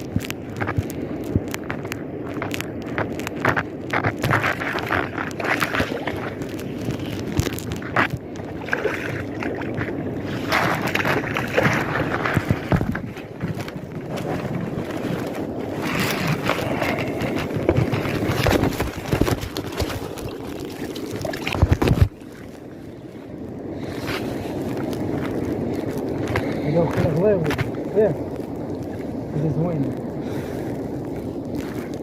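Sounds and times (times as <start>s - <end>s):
sea water sloshing and splashing: 0.0s - 32.0s
wind buffeting microphone: 0.0s - 32.0s.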